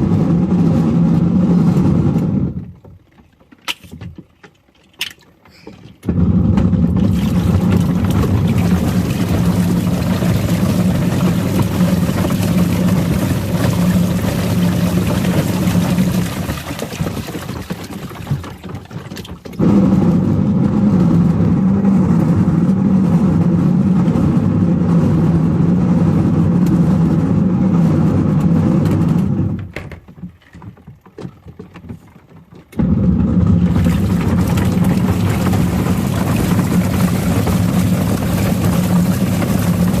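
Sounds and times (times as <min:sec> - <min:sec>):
washing machine motor hum: 0:00.0 - 0:03.4, 0:05.4 - 0:31.0, 0:32.4 - 0:40.0
toys churning in water: 0:04.8 - 0:29.8, 0:32.6 - 0:40.0.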